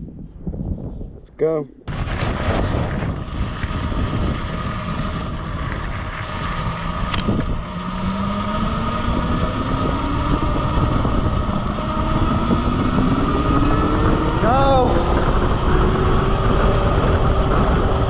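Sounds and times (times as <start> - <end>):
wind rumbling on microphone: 0.0 - 18.0
dirt bike engine accelerating: 1.9 - 18.0.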